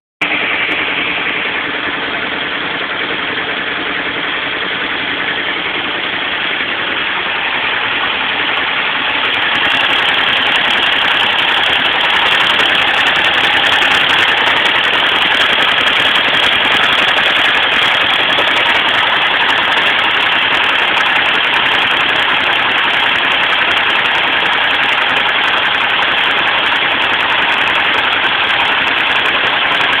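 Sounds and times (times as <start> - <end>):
motorcycle engine running: 0.2 - 30.0.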